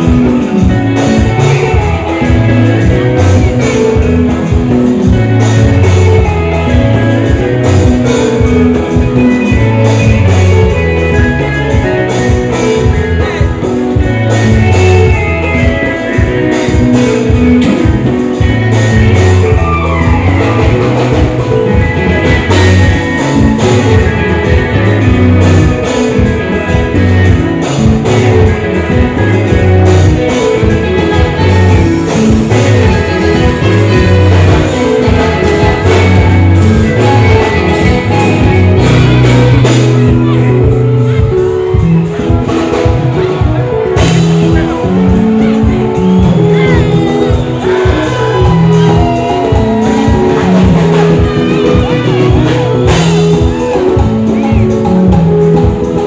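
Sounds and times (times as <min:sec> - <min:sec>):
drum kit beat: 0:00.0 - 0:56.0
electric guitar lines: 0:00.0 - 0:56.0
pounding bass: 0:00.0 - 0:56.0.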